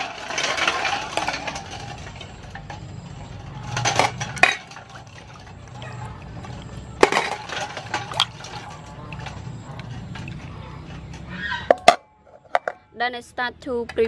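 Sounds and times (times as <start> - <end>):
water sloshing and splashing: 0.0 - 12.7.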